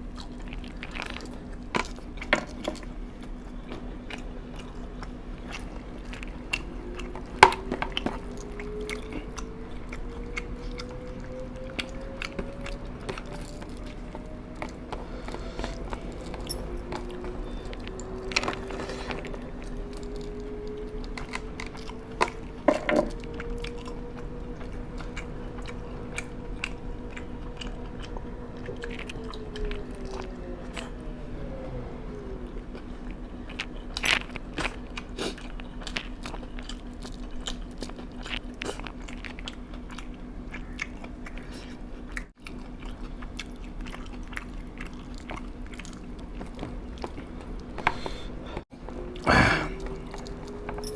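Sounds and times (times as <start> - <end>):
person chewing crunchy food: 0.0 - 31.1, 32.4 - 50.9
steady low hum: 0.0 - 50.9.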